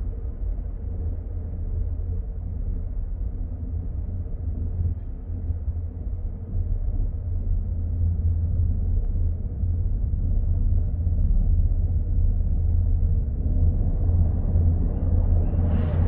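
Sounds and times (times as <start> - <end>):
helicopter rotor deep rumble: 2.5 - 16.0.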